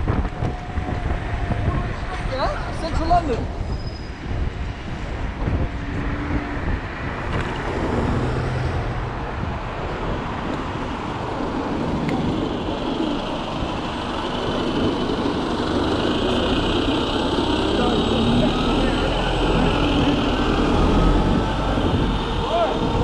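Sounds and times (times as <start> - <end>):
rumbling wind and road noise: 0.0 - 23.0.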